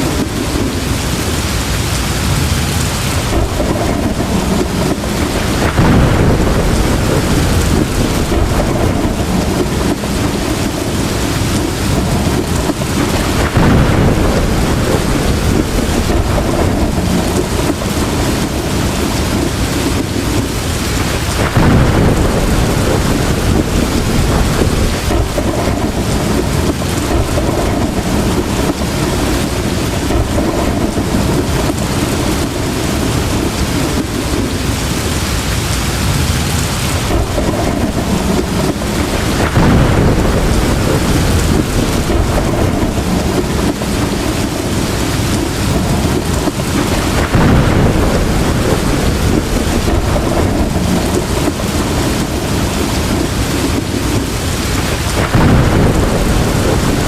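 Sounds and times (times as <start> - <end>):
heavy rain pouring: 0.0 - 57.0
thunder rumbling: 0.0 - 57.0.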